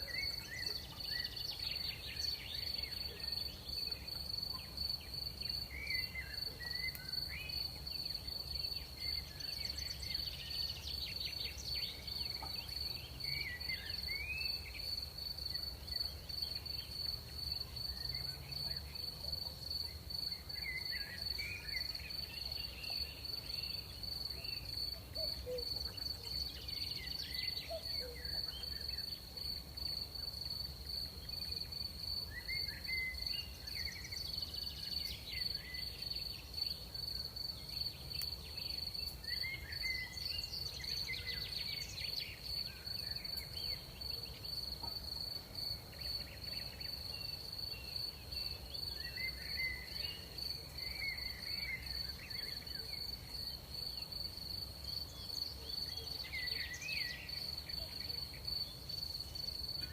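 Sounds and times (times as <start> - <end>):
crickets trilling: 0.0 - 59.9
short insect chirping calls: 0.0 - 59.9.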